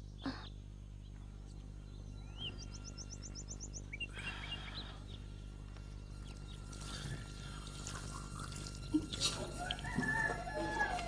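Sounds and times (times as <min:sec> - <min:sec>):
small birds chirping: 0:00.0 - 0:10.3
steady low hum: 0:00.0 - 0:11.0.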